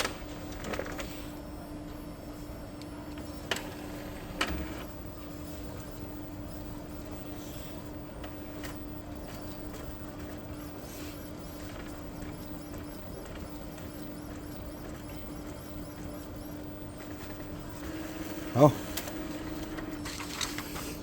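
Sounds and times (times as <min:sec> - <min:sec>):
printer motor hum: 0:00.0 - 0:21.0.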